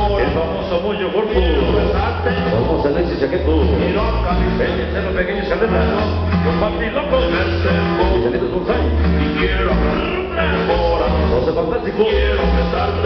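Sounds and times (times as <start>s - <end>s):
loud dance music with bass: 0.0s - 13.0s.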